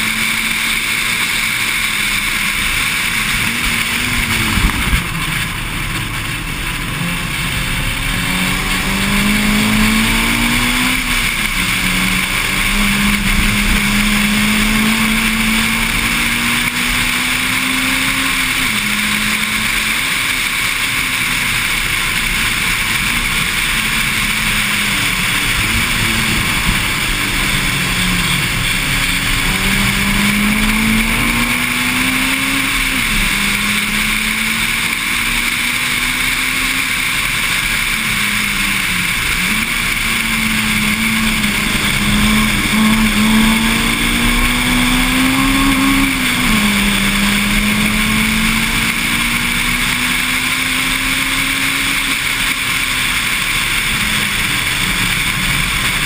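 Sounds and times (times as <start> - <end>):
car engine accelerating hard: 0.0 - 56.0
wind and road noise: 0.0 - 56.0.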